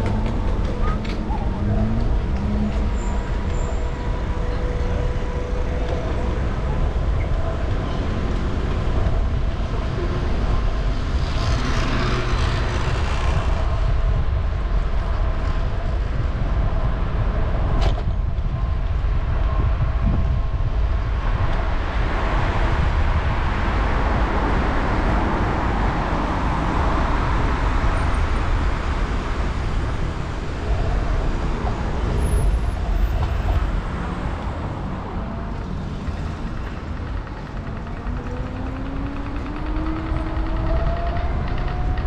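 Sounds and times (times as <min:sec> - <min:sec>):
constant low rumble: 0:00.0 - 0:42.0
street traffic: 0:00.0 - 0:42.0.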